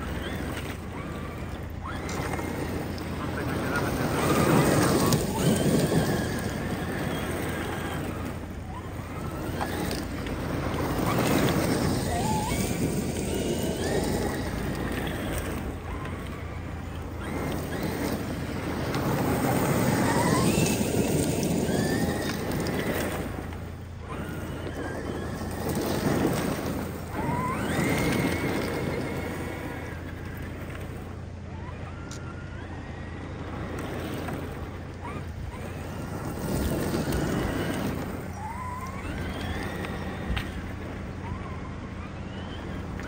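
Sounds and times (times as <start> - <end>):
electric motor whining: 0.0 - 43.0
tyres on loose gravel: 0.0 - 43.0.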